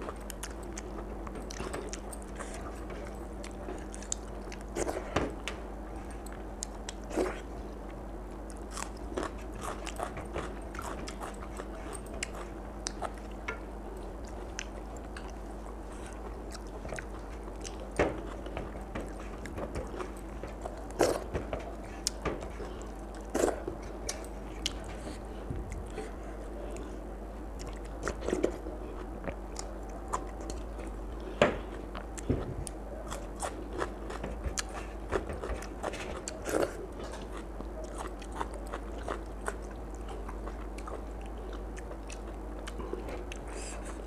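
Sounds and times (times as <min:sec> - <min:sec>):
chewing and crunching: 0:00.0 - 0:44.0
faint steady hum: 0:00.0 - 0:44.0.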